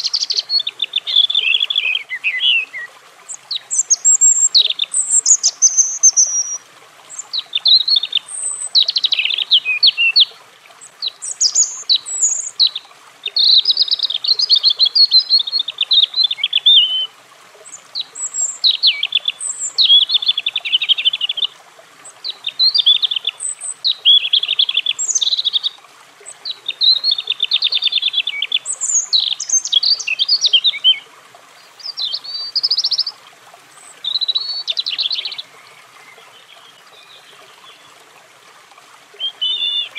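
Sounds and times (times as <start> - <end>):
robin singing: 0.0 - 33.2, 33.8 - 37.9, 39.2 - 39.9.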